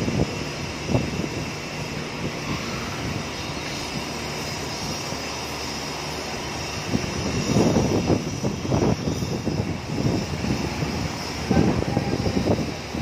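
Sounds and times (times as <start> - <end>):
mechanical drone with hiss: 0.0 - 13.0.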